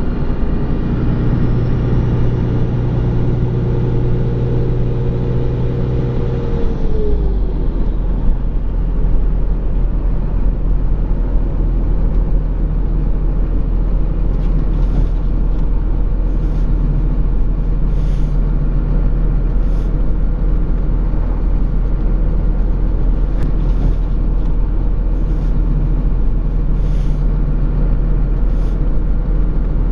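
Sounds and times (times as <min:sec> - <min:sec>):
diesel engine under load: 0:00.0 - 0:29.9.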